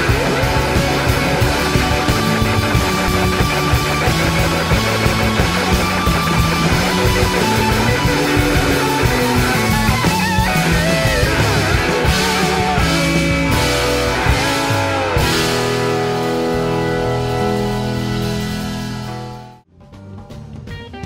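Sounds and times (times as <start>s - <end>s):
electric slide guitar solo: 0.0s - 19.5s
live rock band: 0.0s - 21.0s.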